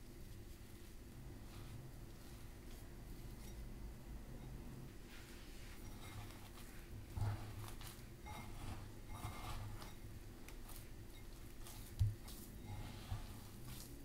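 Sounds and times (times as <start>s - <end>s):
dough squishing and crumbling: 0.0s - 14.0s.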